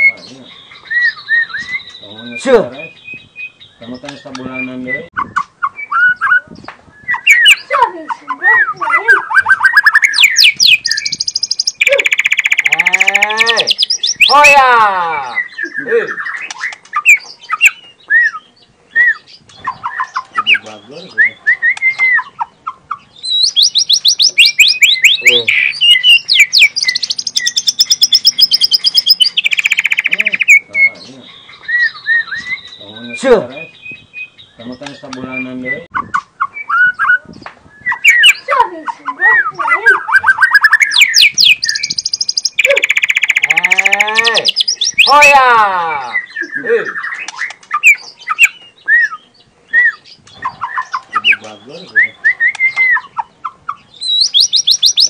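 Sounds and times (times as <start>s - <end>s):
bird singing whistles and chirps: 0.0s - 7.7s, 8.5s - 14.5s, 15.2s - 38.5s, 39.3s - 45.3s, 45.9s - 55.0s.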